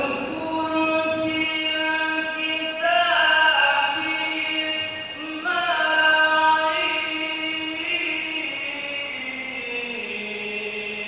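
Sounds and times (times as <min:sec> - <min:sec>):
man reciting melodically into microphone: 0:00.0 - 0:11.0.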